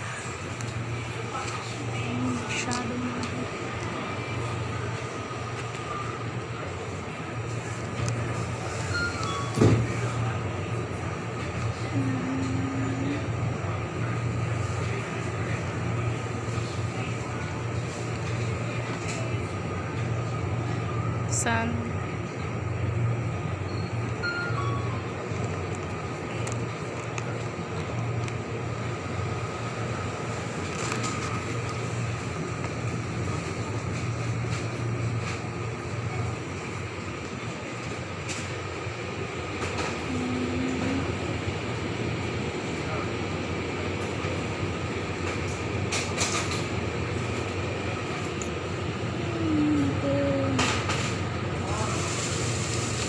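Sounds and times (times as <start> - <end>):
refrigerated display case humming: 0.0 - 53.0.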